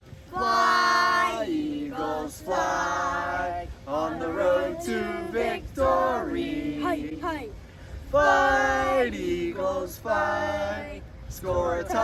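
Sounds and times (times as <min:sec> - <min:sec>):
voices singing a cappella: 0:00.2 - 0:12.0.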